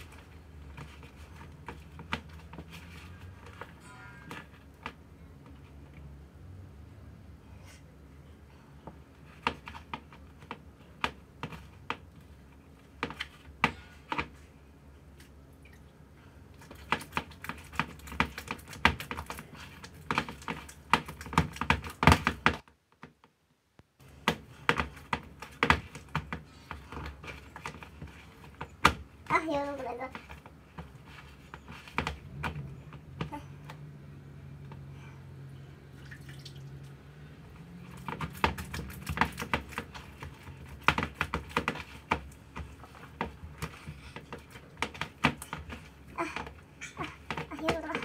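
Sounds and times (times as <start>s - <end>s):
hands kneading sticky dough: 0.0s - 48.0s.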